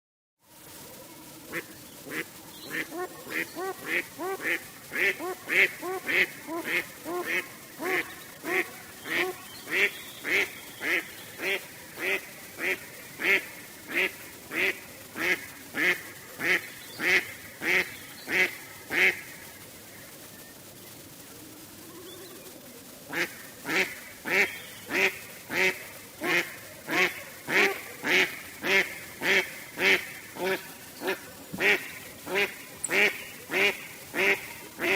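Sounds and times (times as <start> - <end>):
duck quacking: 1.5 - 19.5, 23.1 - 34.9.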